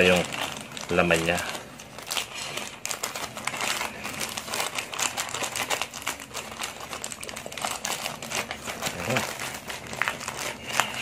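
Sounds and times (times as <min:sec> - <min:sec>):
plastic bag crinkling: 0:00.0 - 0:11.0
plastic tearing: 0:00.0 - 0:11.0.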